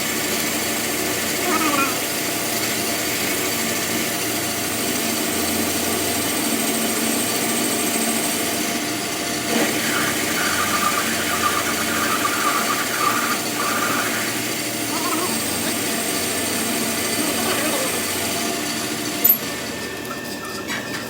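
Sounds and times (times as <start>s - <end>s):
workshop machine running: 0.0s - 21.0s.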